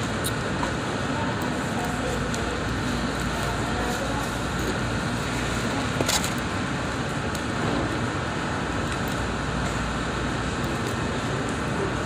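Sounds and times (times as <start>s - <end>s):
restaurant background noise: 0.0s - 12.0s.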